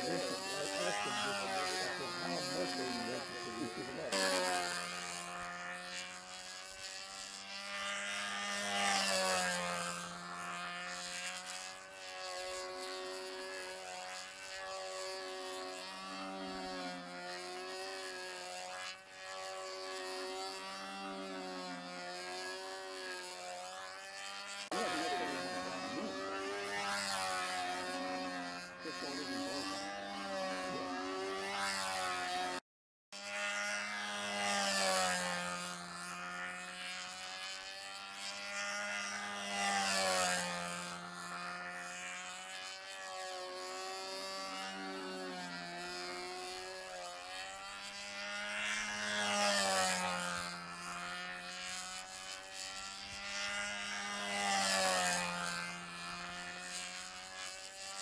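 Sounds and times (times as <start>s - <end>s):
model airplane engine running: 0.0s - 58.0s.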